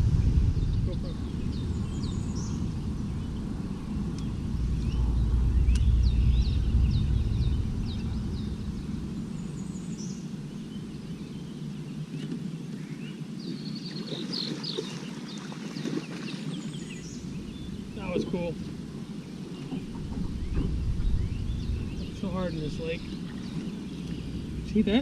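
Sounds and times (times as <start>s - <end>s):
low rumble: 0.0s - 12.2s, 16.6s - 25.0s
birds chirping: 0.0s - 25.0s.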